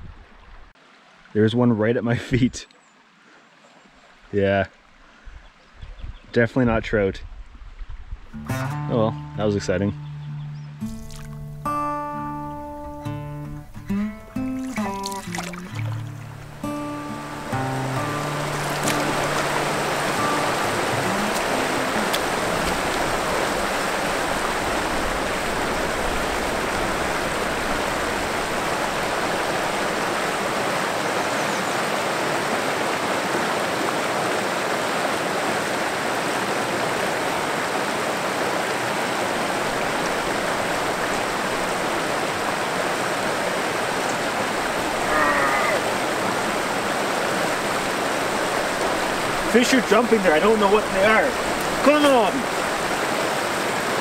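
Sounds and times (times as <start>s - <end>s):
stream water running into pool: 0.0s - 1.4s, 2.1s - 5.8s, 10.8s - 54.0s.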